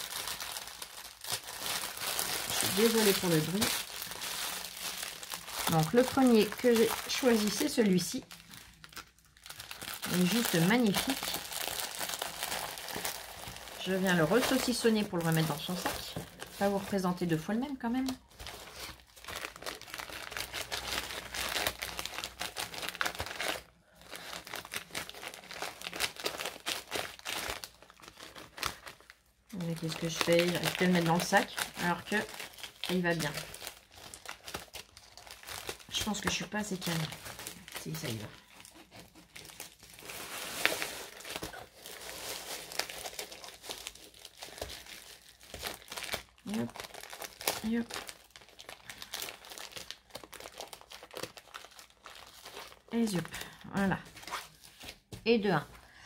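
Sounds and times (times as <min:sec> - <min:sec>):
plastic packaging crinkling: 0:00.0 - 0:55.2.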